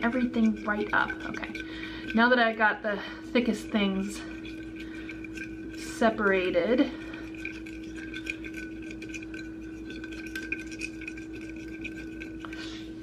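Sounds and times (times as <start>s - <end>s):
fork clinking and scraping bowl: 0.0s - 2.6s, 3.4s - 13.0s.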